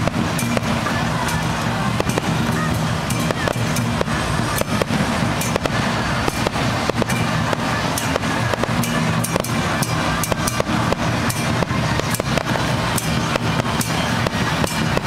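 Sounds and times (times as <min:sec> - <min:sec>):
festival music: 0:00.0 - 0:15.0
fireworks bangs: 0:00.0 - 0:15.0.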